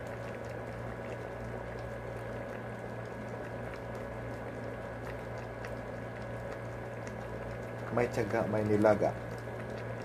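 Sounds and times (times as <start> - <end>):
steady low hum: 0.0 - 10.0
stew bubbles popping: 0.0 - 10.0.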